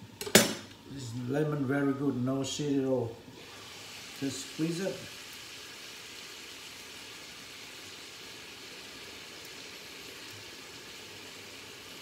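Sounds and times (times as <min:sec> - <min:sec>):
meat and onion sizzling in a pan: 0:00.0 - 0:12.0.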